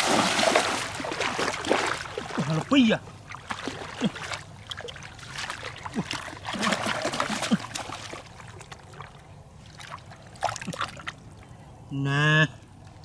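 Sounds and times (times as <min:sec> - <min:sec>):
water splashing and trickling: 0:00.0 - 0:11.6.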